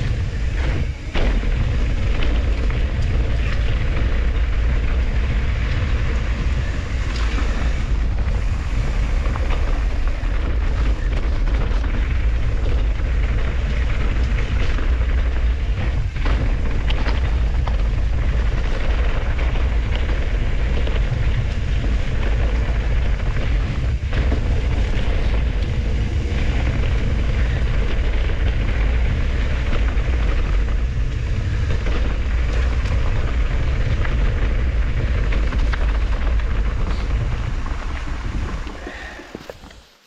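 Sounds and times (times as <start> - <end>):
mountain bike tyre noise: 0.0 - 40.0
wind rumbling on microphone: 0.0 - 40.0.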